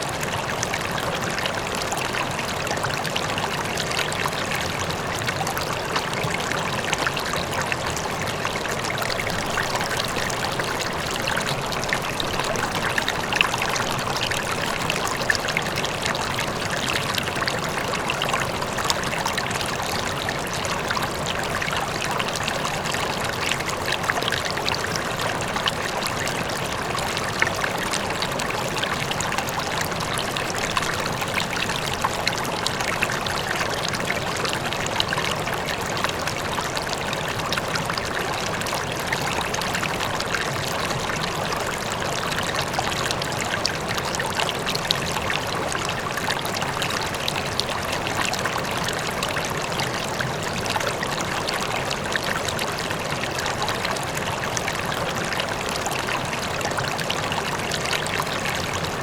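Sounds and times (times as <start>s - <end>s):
river water rushing over rocks: 0.1s - 59.0s.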